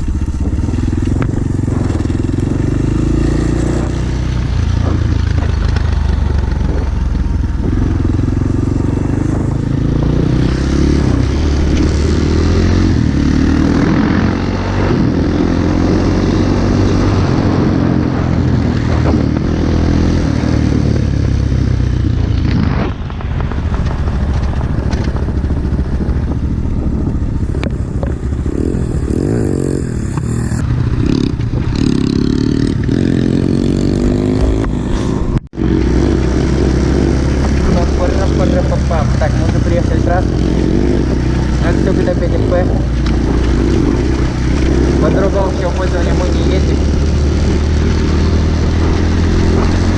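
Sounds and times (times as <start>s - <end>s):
pit bike engine revving: 0.0s - 49.9s.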